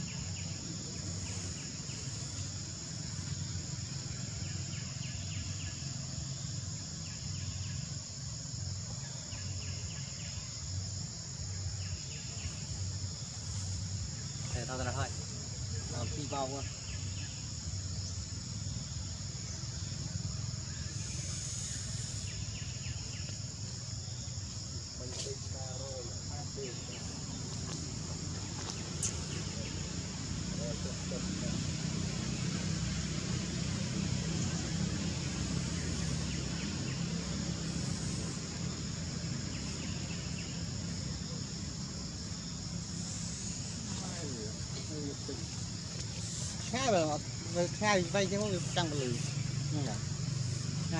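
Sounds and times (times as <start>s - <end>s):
insect chorus: 0.0s - 50.9s.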